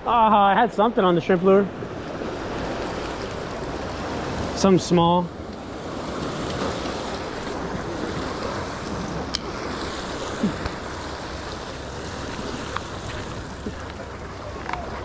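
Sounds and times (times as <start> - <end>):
waves washing on shore: 0.0 - 15.0
wind buffeting microphone: 1.6 - 15.0.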